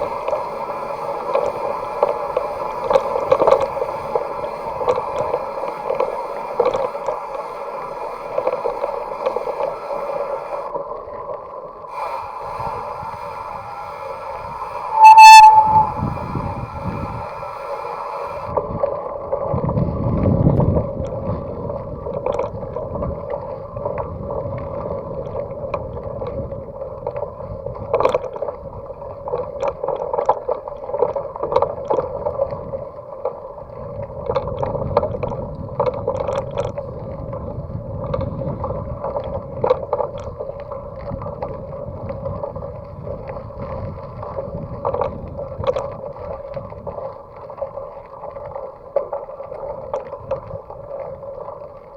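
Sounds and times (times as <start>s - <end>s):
bicycle hub and tyres buzzing: 0.0s - 11.2s, 12.0s - 51.9s.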